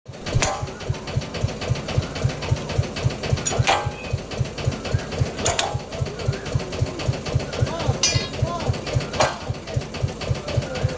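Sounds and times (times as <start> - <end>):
engine thumping: 0.1 - 10.9.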